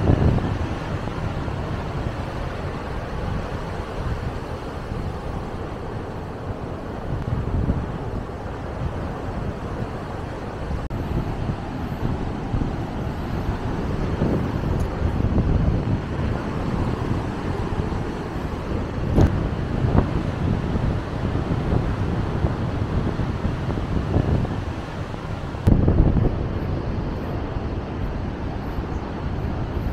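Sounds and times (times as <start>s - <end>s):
wind on microphone: 0.0s - 29.9s.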